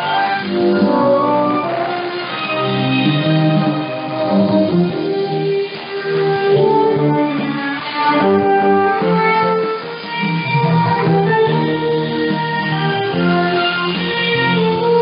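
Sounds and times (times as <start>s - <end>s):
instrumental music over radio: 0.0s - 15.0s.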